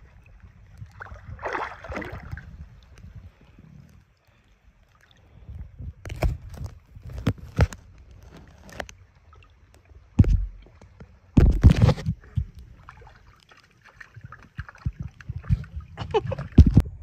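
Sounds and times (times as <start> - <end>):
water splashing around a paddleboard: 0.0 - 17.0.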